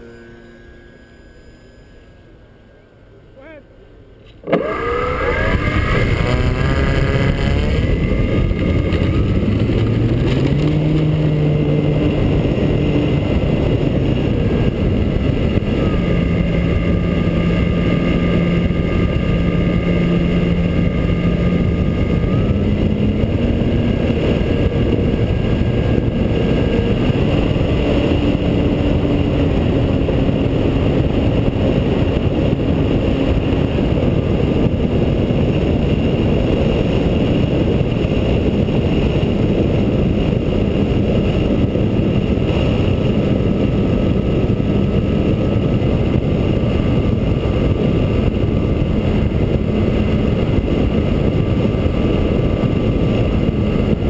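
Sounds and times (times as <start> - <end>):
model plane motor and propeller: 0.0 - 2.8, 4.2 - 54.0
heavy rushing noise: 4.4 - 54.0.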